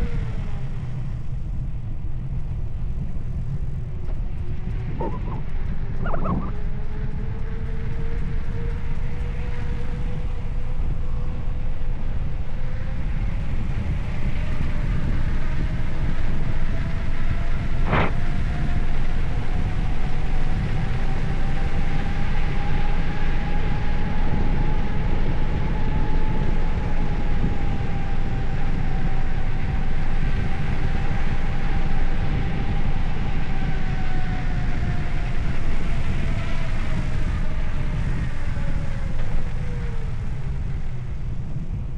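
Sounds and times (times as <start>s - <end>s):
faint whine: 0.0s - 41.9s
wind rushing over microphone: 0.0s - 41.9s.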